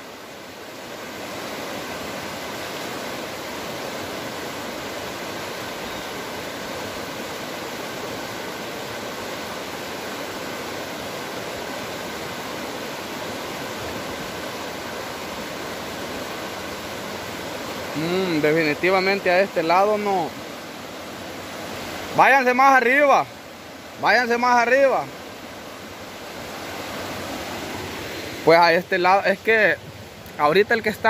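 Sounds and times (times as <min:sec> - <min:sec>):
river rushing over rocks: 0:00.0 - 0:31.0.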